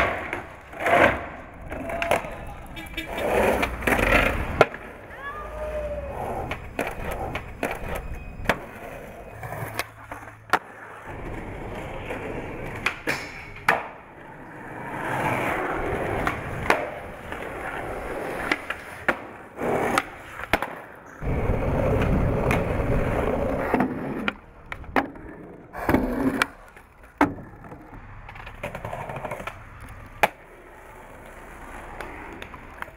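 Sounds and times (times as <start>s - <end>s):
skateboard clacks: 0.0s - 32.9s
skateboard wheels rolling: 0.0s - 32.9s.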